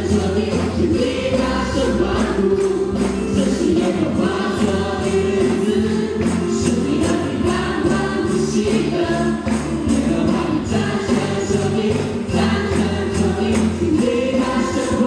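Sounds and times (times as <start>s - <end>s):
group singing praise song: 0.0s - 15.0s
musical accompaniment: 0.0s - 15.0s
tambourines struck: 0.0s - 15.0s.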